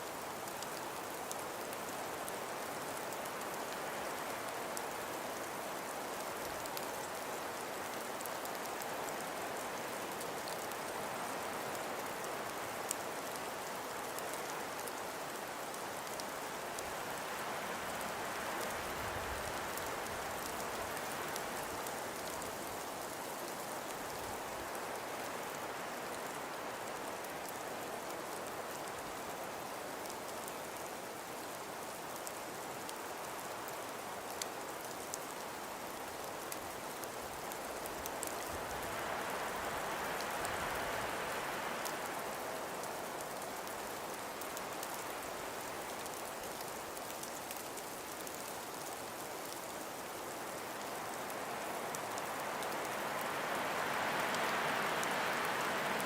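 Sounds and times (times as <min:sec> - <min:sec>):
wind and blowing snow hiss: 0:00.0 - 0:56.0.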